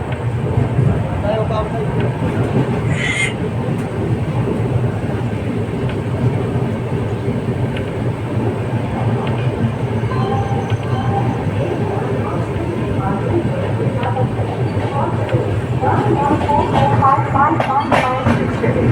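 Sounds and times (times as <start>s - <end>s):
train wheels rumbling on track: 0.0s - 18.9s.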